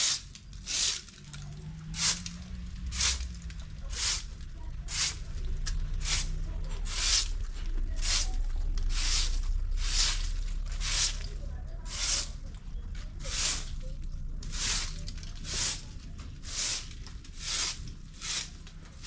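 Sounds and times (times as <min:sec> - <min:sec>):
broom sweeping brick paving: 0:00.0 - 0:19.0.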